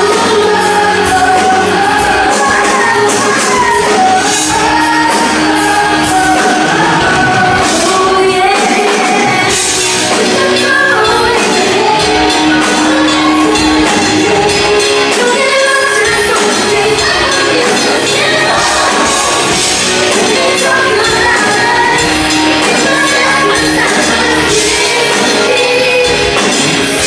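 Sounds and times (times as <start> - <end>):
lead singer singing: 0.0 - 27.0
live band playing: 0.0 - 27.0.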